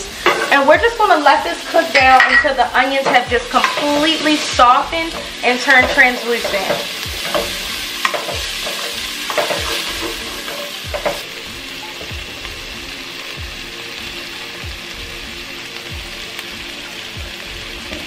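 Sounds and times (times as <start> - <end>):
onions sizzling in butter: 0.0 - 18.0.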